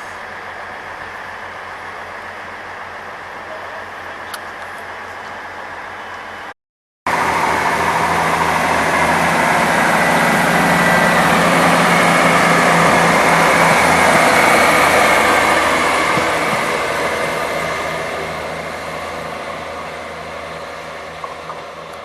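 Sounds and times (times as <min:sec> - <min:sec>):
diesel train engine: 0:00.0 - 0:22.0.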